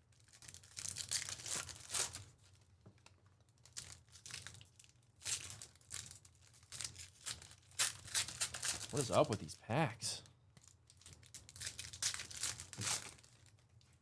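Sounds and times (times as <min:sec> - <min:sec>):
wrappers crinkling and tearing: 0:00.1 - 0:02.6, 0:03.5 - 0:09.3, 0:10.6 - 0:13.9.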